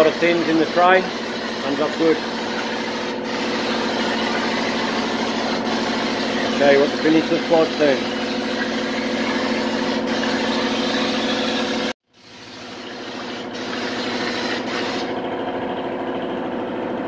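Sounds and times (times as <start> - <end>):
compressed air hissing: 0.0 - 15.1.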